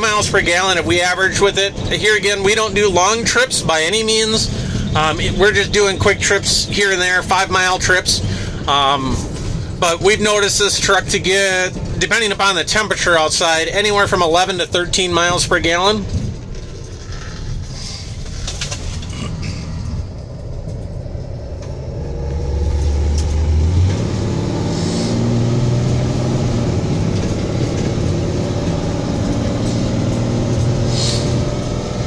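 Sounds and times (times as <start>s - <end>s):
diesel truck engine: 0.0s - 32.0s
road noise: 0.0s - 32.0s.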